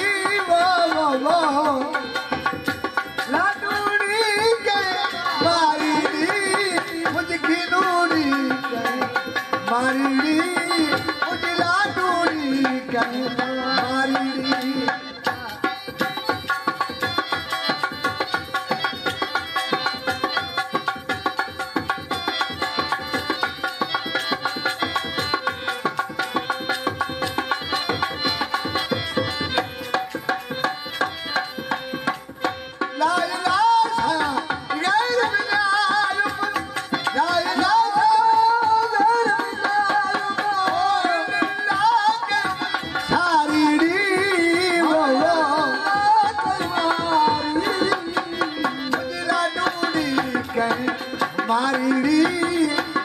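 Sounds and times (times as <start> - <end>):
man singing: 0.0 - 24.9, 32.4 - 53.0
percussive beat: 0.0 - 53.0.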